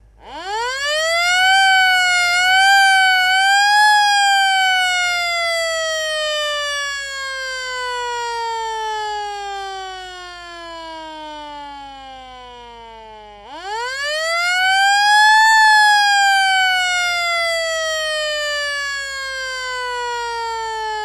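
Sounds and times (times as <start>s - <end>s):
old-style siren winding: 0.2s - 21.0s.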